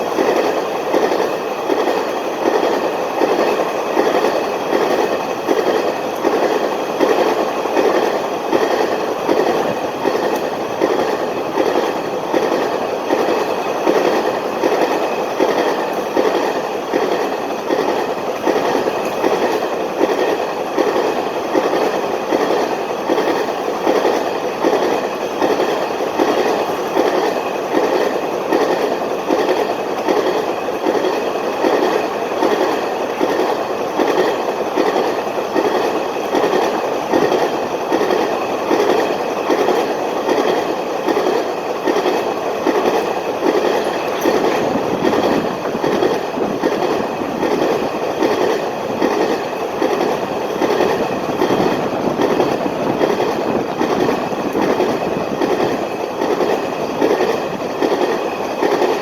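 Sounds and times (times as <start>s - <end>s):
train wheels clicking over rail joints: 0.0s - 59.0s.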